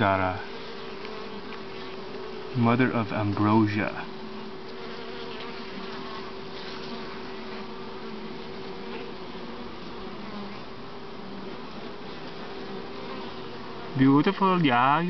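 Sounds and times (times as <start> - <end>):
bee flying close past: 0.0 - 14.4
bees buzzing: 0.0 - 15.0.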